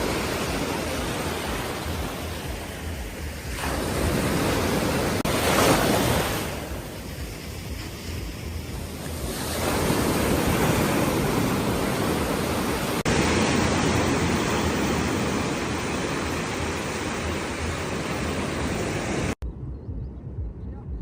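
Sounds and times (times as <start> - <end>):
sea waves washing on shore: 0.0 - 19.4.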